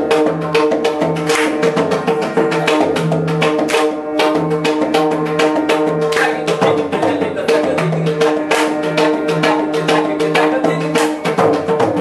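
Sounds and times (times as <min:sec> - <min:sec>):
barrel drum played by hand: 0:00.0 - 0:12.0.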